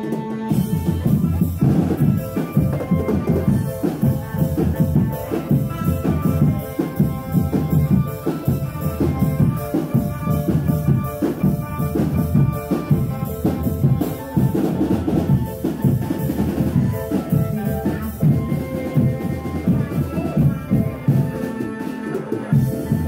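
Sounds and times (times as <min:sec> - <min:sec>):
pitched melody: 0:00.0 - 0:23.0
bass drums and snares: 0:00.5 - 0:21.6, 0:22.5 - 0:23.0.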